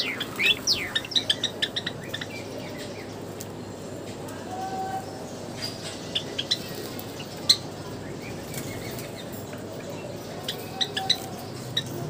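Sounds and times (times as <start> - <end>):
sparrows chip calls: 0.0 - 3.8, 4.7 - 12.0
steady background hiss: 0.0 - 11.8.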